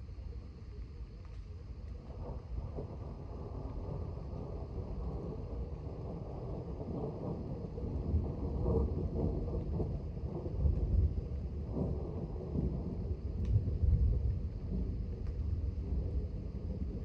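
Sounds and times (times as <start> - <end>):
thunder rumbling: 2.1 - 17.0.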